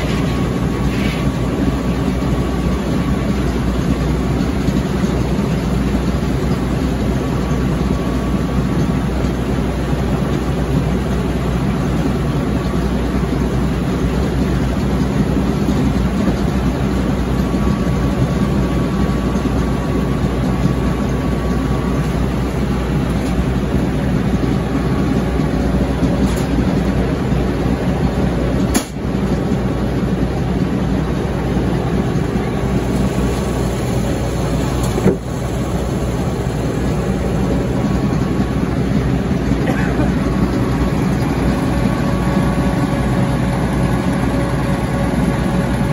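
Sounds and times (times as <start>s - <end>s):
loud engine drone: 0.0s - 45.9s.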